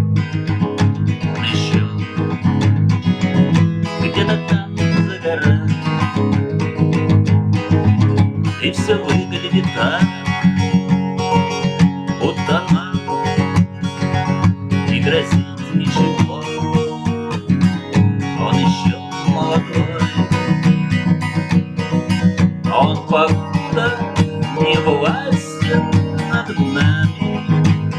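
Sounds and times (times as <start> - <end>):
acoustic guitar chords: 0.0 - 27.9.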